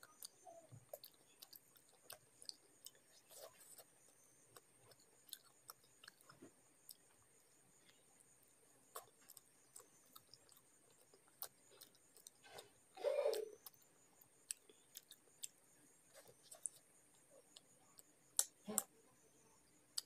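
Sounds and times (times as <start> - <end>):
wet chewing clicks and smacks: 0.0 - 8.3, 8.9 - 12.7, 13.6 - 18.9.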